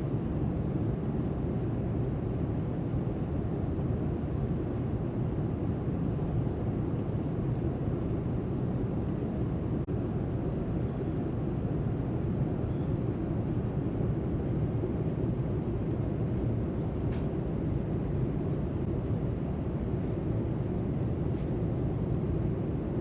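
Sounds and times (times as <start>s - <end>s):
airliner cabin rumble: 3.2s - 23.0s.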